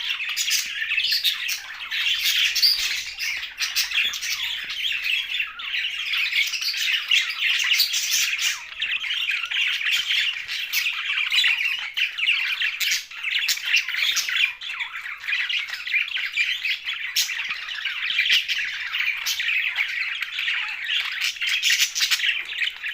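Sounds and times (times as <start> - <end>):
budgerigars chattering and squawking: 0.0 - 22.9.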